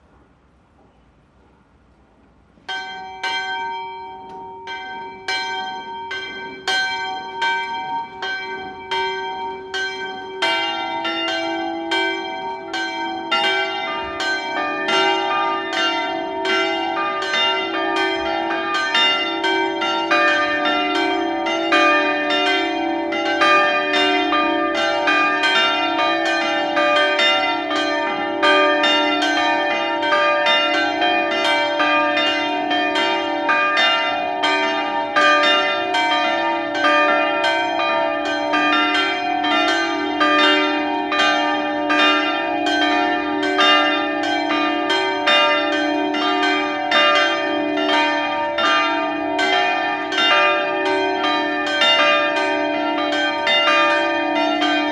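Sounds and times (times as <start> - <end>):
church bells ringing: 2.6 - 54.9.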